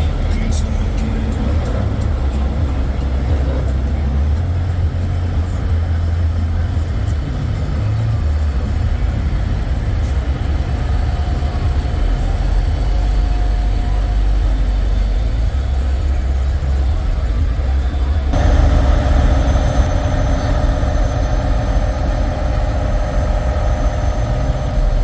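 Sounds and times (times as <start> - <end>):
diesel truck engines idling: 0.0 - 25.0.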